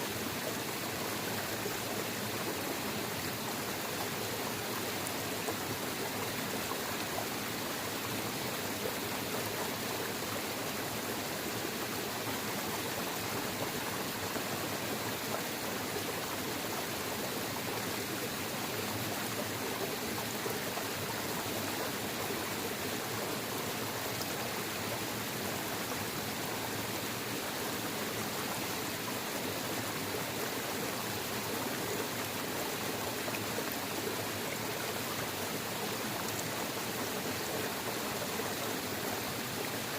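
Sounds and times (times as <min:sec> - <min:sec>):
waterfall and rushing stream: 0:00.0 - 0:39.9.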